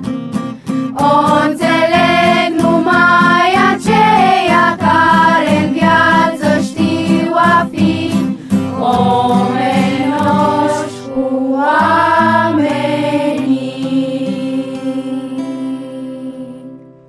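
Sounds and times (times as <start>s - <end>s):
children's choir singing: 0.9s - 16.8s.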